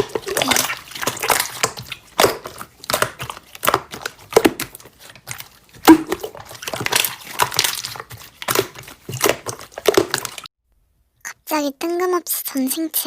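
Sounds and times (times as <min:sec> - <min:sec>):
slime squished by hand: 0:00.0 - 0:10.5.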